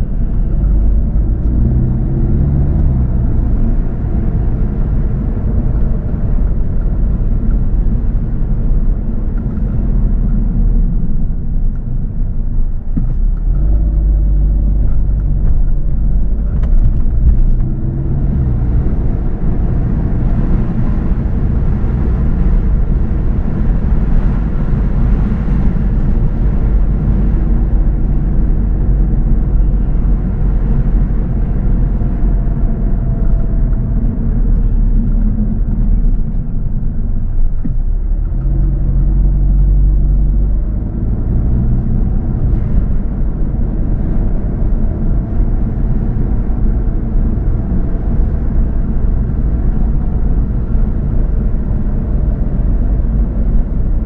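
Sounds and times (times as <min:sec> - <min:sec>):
car engine: 0:00.0 - 0:54.0
road rumble: 0:00.0 - 0:54.0.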